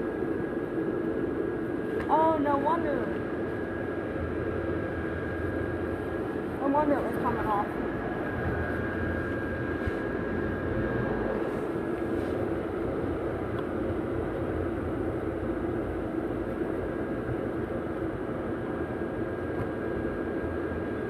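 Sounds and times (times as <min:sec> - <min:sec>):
blower fans droning: 0:00.0 - 0:21.0.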